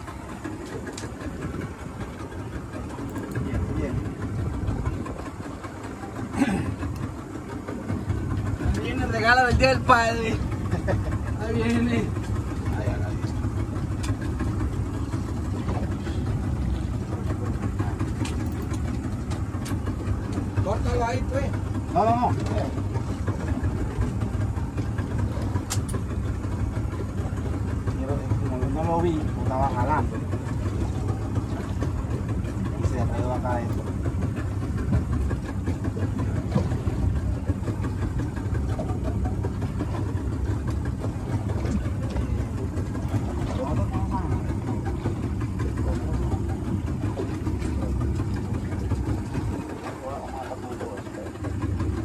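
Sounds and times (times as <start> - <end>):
boat motor rumbling: 0.0 - 52.0
water around hull: 0.0 - 52.0.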